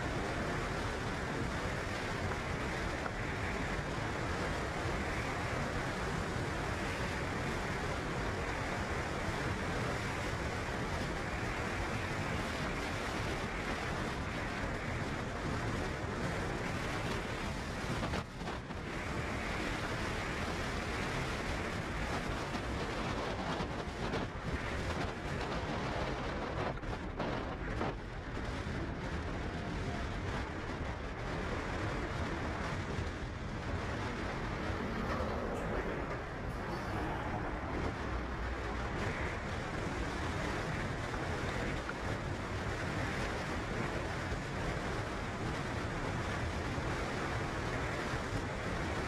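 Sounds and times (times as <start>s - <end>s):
steady rushing noise: 0.0s - 49.0s.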